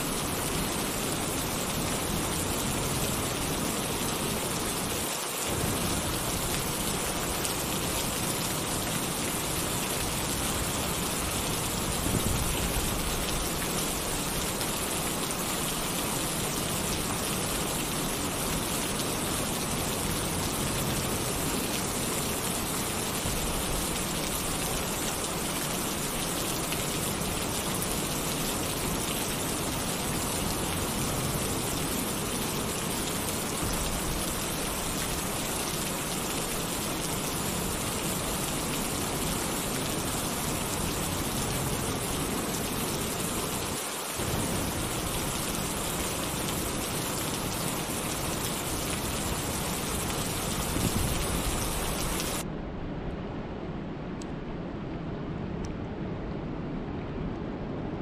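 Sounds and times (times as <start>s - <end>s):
heavy rain on a tin roof: 0.0s - 52.5s.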